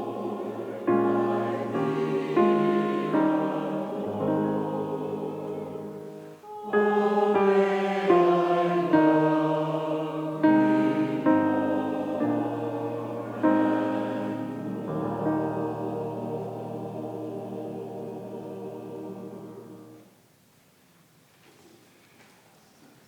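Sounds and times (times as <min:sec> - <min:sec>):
choir singing held chords: 0:00.0 - 0:20.1.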